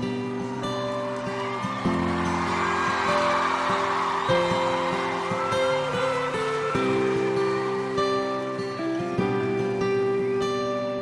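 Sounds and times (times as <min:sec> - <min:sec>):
guitar playing chords: 0:00.0 - 0:11.0.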